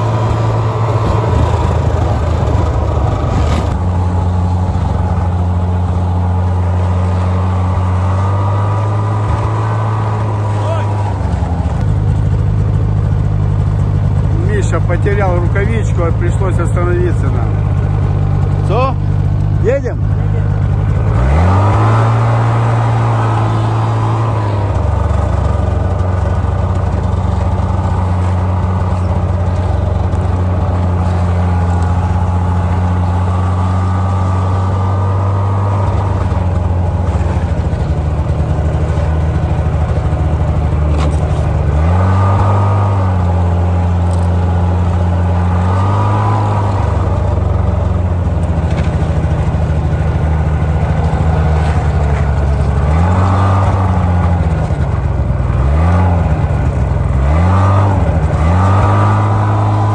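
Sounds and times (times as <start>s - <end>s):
small vehicle engine running: 0.0s - 59.9s.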